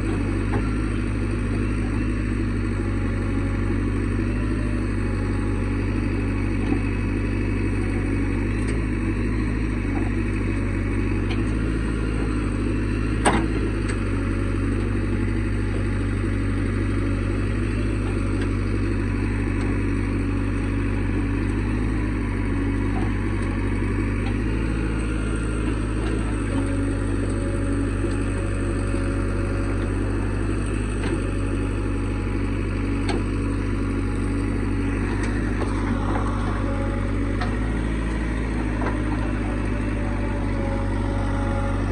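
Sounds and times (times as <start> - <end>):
diesel machinery engine drone: 0.0 - 41.9.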